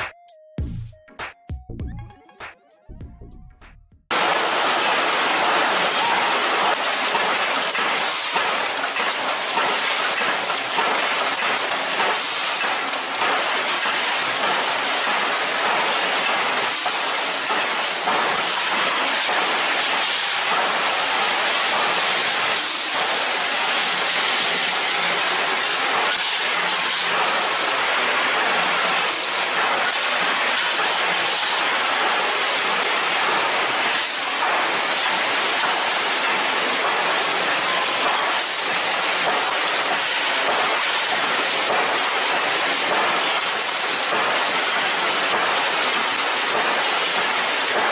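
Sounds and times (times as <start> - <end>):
factory machinery clattering hiss: 4.1 - 47.9.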